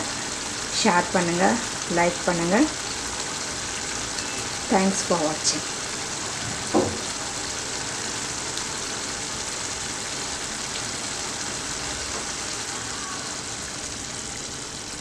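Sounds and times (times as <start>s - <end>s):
gravy bubbling and sizzling: 0.0s - 15.0s.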